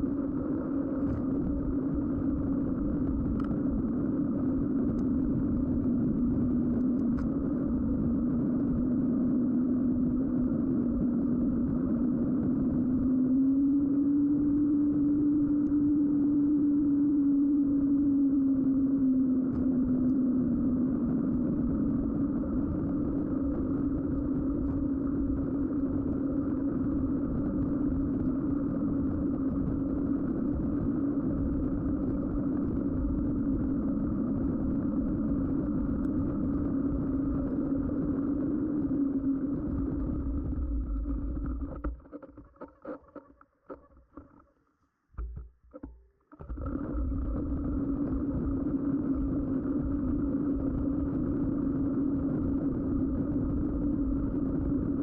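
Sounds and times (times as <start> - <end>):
bike tyres humming on road: 0.0 - 43.8, 45.8 - 55.0.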